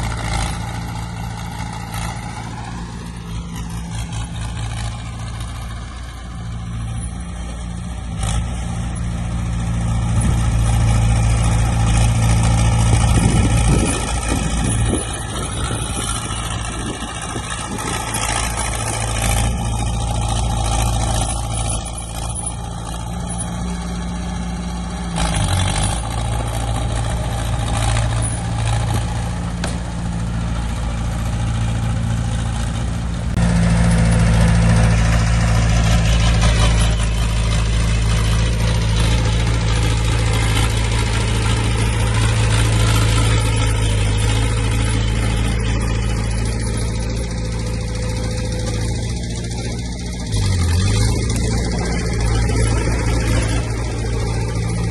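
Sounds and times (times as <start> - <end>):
diesel machinery engine drone: 0.0 - 54.9.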